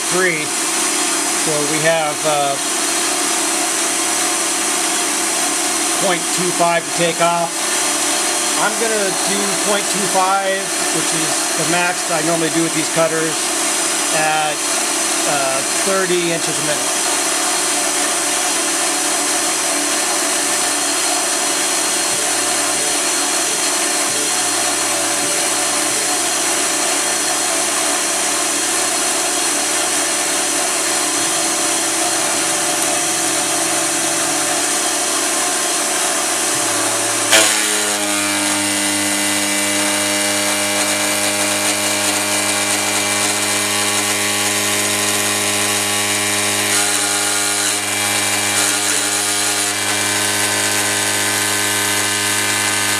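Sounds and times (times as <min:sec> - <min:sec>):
tonal cutting whine: 0:00.0 - 0:03.1, 0:05.8 - 0:17.3, 0:21.9 - 0:52.9
milling machine cutting metal: 0:00.0 - 0:52.9.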